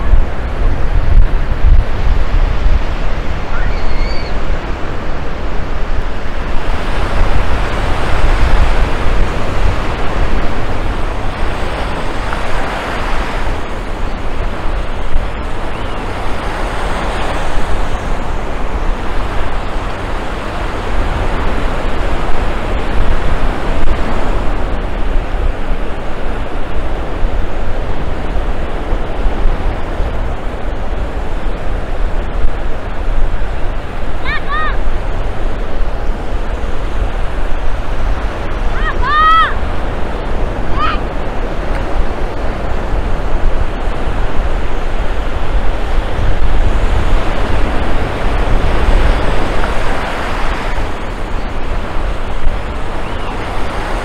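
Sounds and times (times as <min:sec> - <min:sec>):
ocean surf breaking: 0:00.0 - 0:54.0
wind on microphone: 0:00.0 - 0:54.0.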